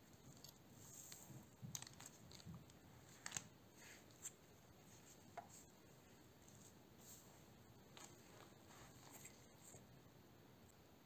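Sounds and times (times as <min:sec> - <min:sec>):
gloves rustling: 0:00.0 - 0:09.9.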